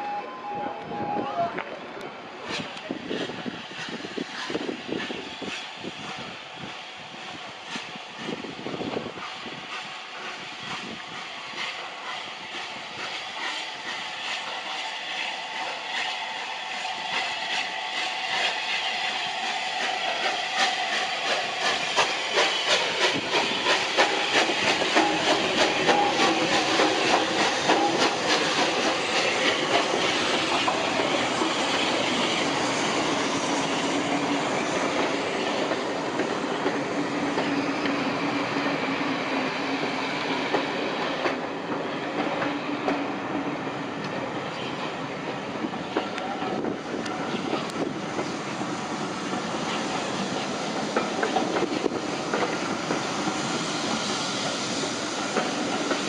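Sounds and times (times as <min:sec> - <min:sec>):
steam locomotive passing: 0:00.0 - 0:56.0.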